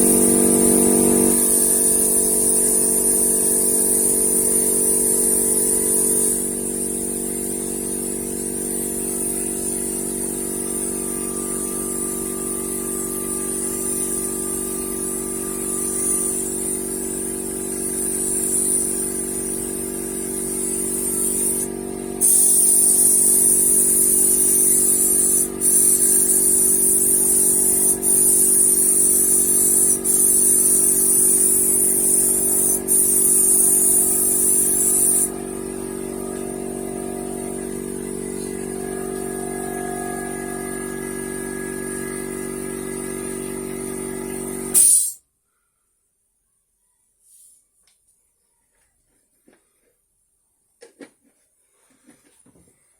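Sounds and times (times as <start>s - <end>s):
paint spray gun hissing: 0.0s - 45.2s
steady hum: 0.0s - 45.2s.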